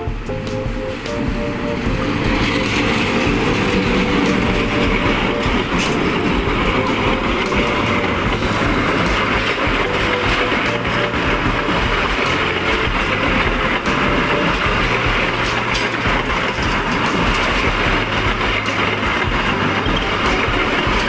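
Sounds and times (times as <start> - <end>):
clickety-clack over rail joints: 0.0 - 21.0
train wheels rumbling: 0.0 - 21.0.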